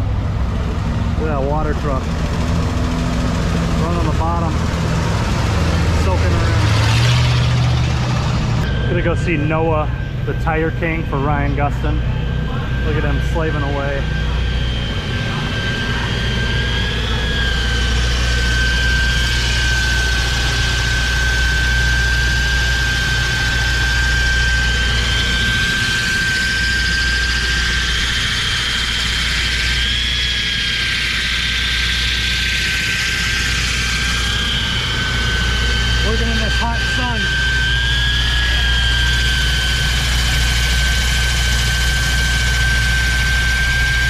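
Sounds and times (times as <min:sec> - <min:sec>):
low hum: 0:00.0 - 0:44.0
power tire grinder whining: 0:00.0 - 0:44.0.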